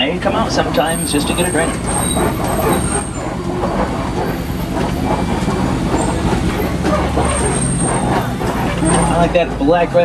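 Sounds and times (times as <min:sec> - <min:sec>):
road noise: 0:00.0 - 0:10.0
truck engine rumble: 0:00.0 - 0:10.0.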